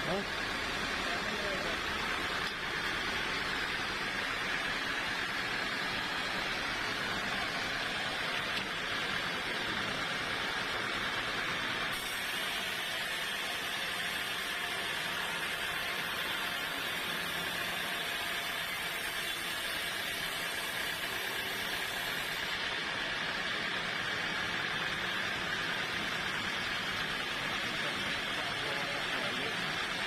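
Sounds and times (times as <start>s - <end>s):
sawmill machinery hissing: 0.0s - 30.0s.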